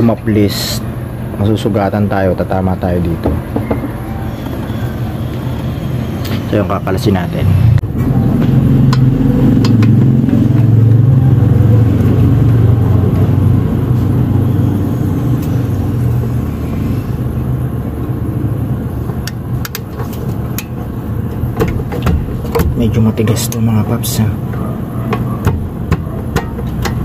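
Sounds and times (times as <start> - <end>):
vehicle engine rumbling: 2.5 - 27.0.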